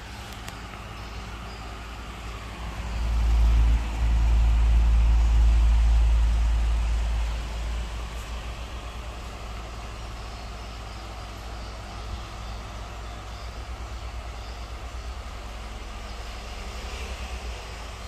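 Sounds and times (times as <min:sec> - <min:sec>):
electric fan whirring: 0:00.0 - 0:18.0
fan wind rumble on microphone: 0:00.0 - 0:18.0.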